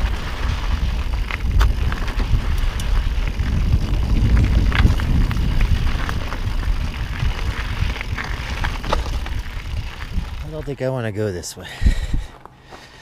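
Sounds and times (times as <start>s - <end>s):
wind rumble on microphone: 0.0s - 10.7s, 11.8s - 12.3s
bike clattering over stones: 0.0s - 10.8s
tyres crunching on gravel: 0.0s - 13.0s.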